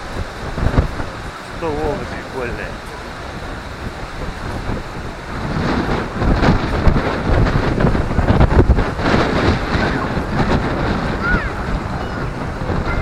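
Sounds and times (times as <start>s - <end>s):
sea waves breaking on shore: 0.0s - 13.0s
wind buffeting microphone: 0.0s - 13.0s.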